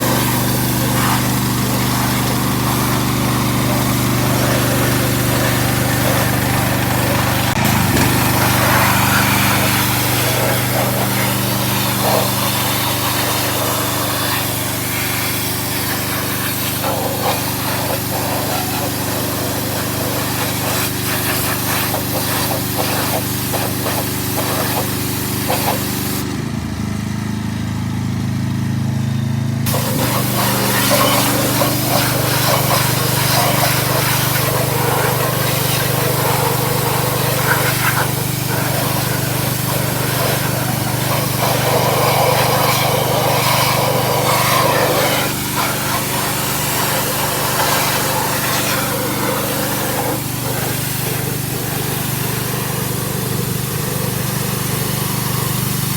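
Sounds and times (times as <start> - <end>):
water spray hissing: 0.0 - 26.3, 29.7 - 55.9
pressure washer running: 0.0 - 55.9.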